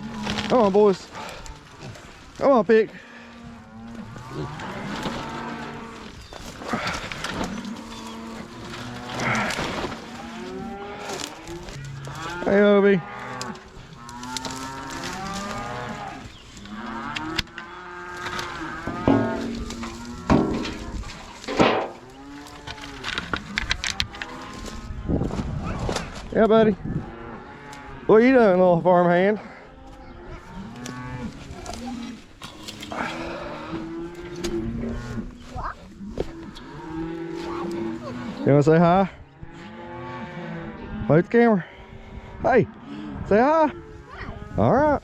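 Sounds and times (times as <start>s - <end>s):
cattle mooing: 3.0s - 25.1s, 29.4s - 35.4s, 36.2s - 45.0s.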